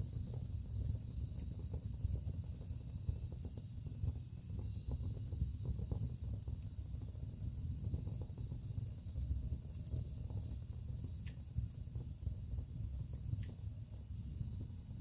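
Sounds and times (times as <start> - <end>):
burning logs popping: 0.0 - 15.0
wood fire crackling: 0.0 - 15.0.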